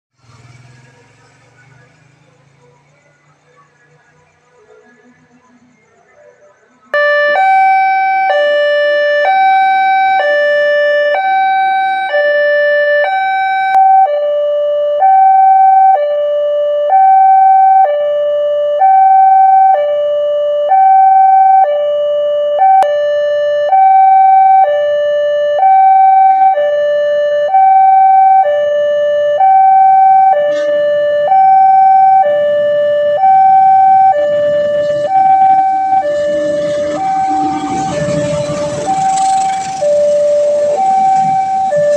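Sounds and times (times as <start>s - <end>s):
two-tone crossing warning siren: 0.2s - 41.9s.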